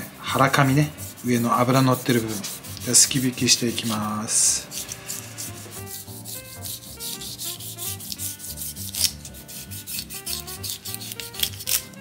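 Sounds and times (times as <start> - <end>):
knife scraping fish scales: 0.0 - 12.0.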